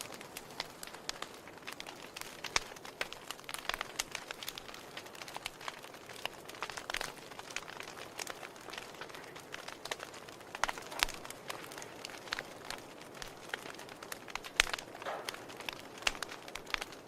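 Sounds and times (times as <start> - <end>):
fire pops and snaps: 0.0 - 17.0
soft fire hiss: 0.0 - 17.0
wood fire crackling: 0.0 - 17.0.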